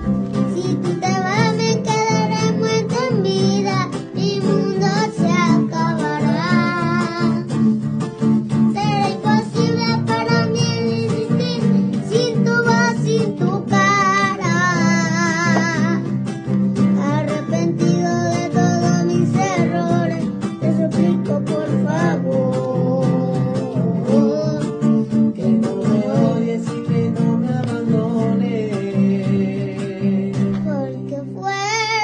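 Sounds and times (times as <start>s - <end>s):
person singing: 0.0s - 7.9s, 8.5s - 32.0s
plucked acoustic guitar: 0.0s - 32.0s.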